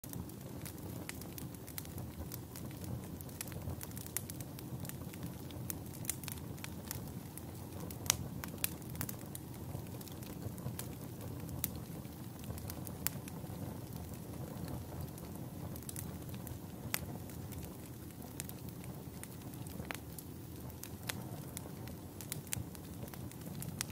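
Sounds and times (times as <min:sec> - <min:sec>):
wood crackling and popping: 0:00.0 - 0:23.9
campfire flame rushing: 0:00.1 - 0:23.9.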